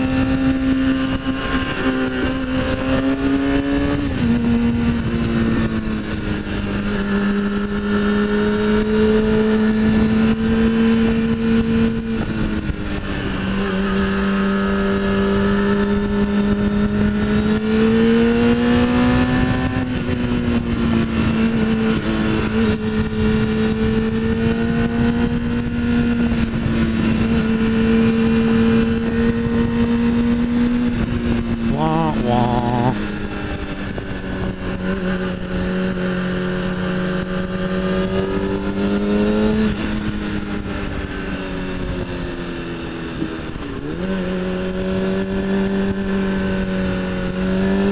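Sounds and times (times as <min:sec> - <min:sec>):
motorcycle engine at high revs: 0:00.0 - 0:47.9.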